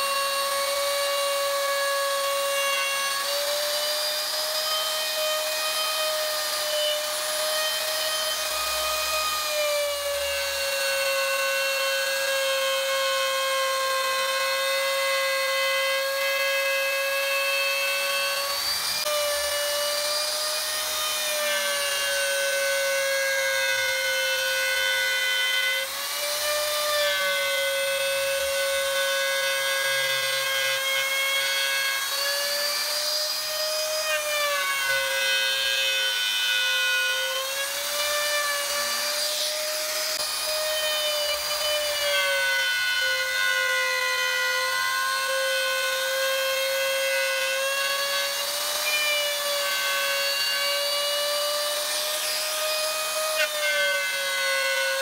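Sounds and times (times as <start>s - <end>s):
wood router whining: 0.0s - 55.0s.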